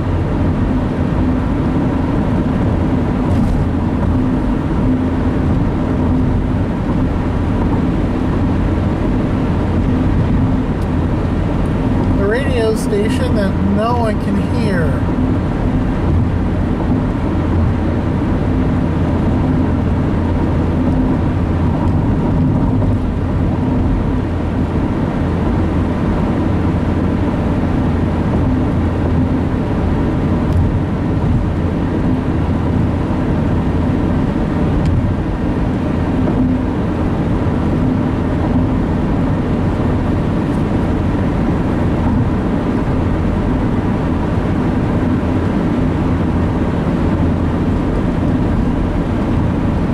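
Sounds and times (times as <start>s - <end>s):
road and engine drone in car: 0.0s - 49.9s.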